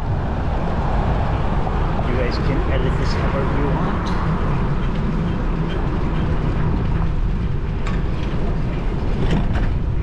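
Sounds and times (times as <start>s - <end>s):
bicycle road noise: 0.0s - 10.0s
wind buffeting microphone: 0.0s - 10.0s.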